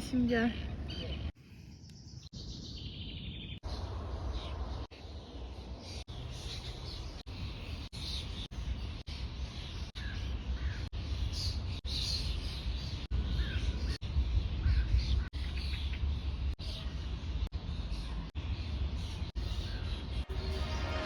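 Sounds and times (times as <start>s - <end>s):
birds calling: 0.0s - 21.0s
steady low rumble: 2.9s - 20.8s.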